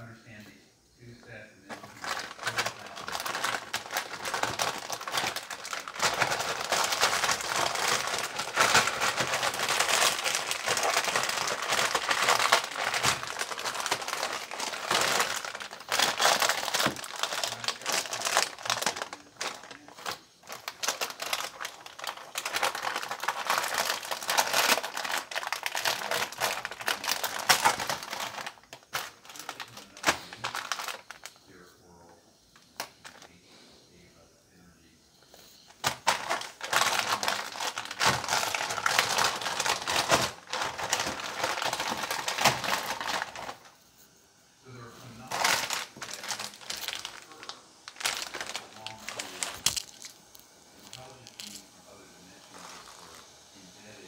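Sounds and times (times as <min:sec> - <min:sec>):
plastic packaging crinkling: 0:01.6 - 0:31.5, 0:32.6 - 0:33.4, 0:35.4 - 0:43.8, 0:44.8 - 0:54.0.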